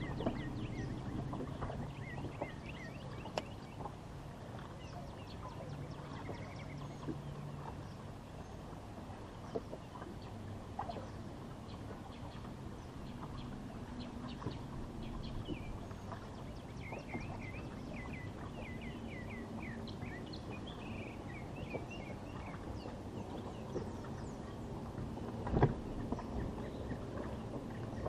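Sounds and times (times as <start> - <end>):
birds chirping: 0.0 - 4.0, 4.7 - 8.6, 9.4 - 28.0
low outdoor background rumble: 0.0 - 28.0.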